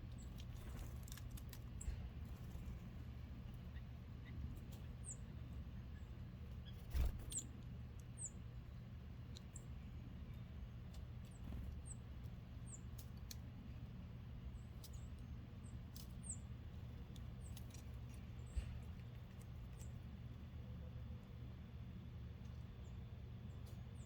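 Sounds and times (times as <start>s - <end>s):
low steady rumble: 0.0s - 24.0s
small birds chirping: 0.0s - 24.0s.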